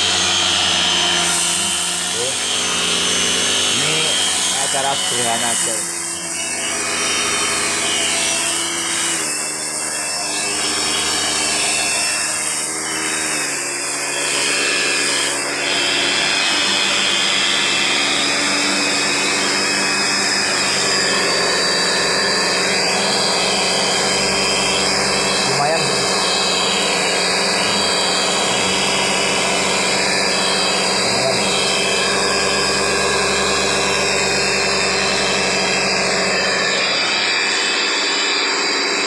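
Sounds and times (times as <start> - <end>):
angle grinder motor running: 0.0 - 39.0.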